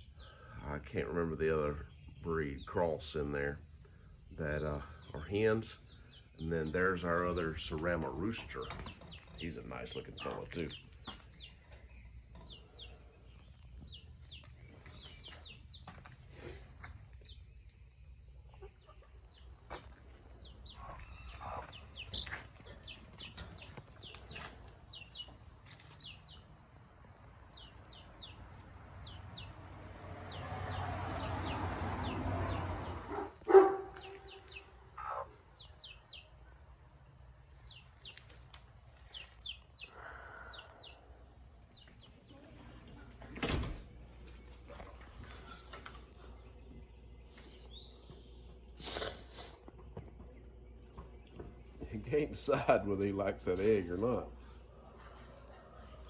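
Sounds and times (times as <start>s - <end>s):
chickens clucking and chirping: 0.0s - 56.0s.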